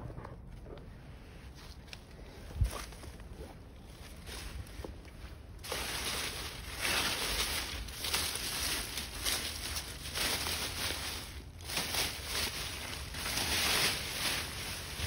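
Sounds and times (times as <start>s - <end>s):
leaves and vines rustling: 1.2s - 15.0s.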